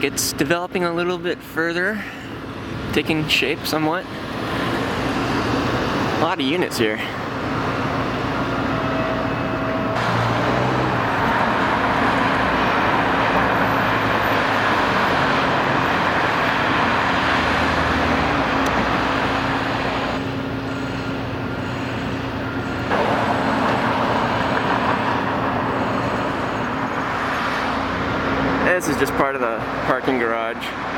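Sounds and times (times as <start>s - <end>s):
road vehicle tyre and engine noise: 2.0s - 30.9s.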